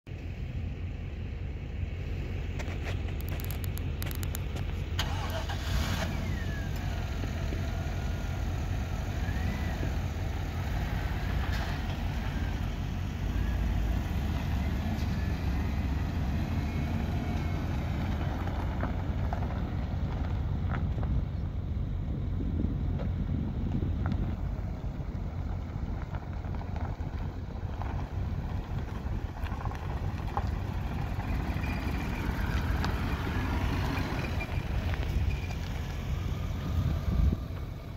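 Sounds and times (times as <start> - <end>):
pickup engine running: 0.1 - 37.9.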